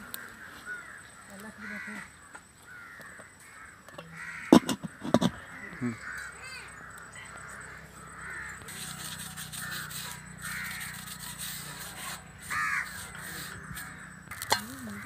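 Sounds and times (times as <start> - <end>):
crows cawing: 0.0 - 15.0.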